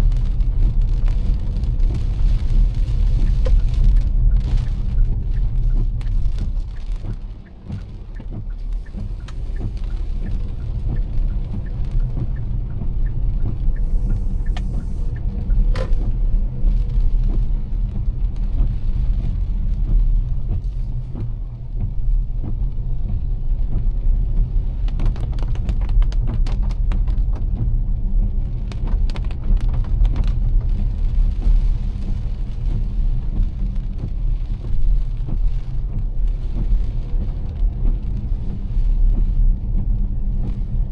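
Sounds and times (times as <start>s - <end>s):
car engine and tyres on wet road: 0.0s - 40.9s
heavy rain: 0.0s - 40.9s.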